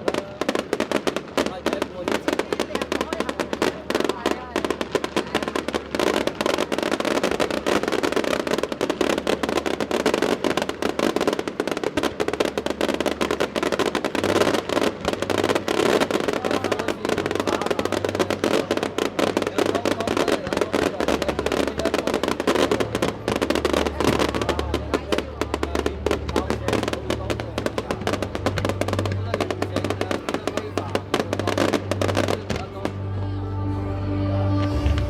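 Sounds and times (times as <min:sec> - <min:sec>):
fireworks crackling and popping: 0:00.0 - 0:33.2, 0:34.6 - 0:35.0
low sustained musical notes: 0:00.0 - 0:35.0.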